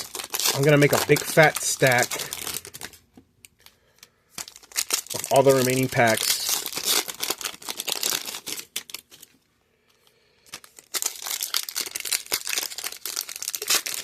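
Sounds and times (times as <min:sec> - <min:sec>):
foil wrappers crinkling: 0:00.0 - 0:03.0, 0:03.6 - 0:09.4, 0:10.4 - 0:14.0.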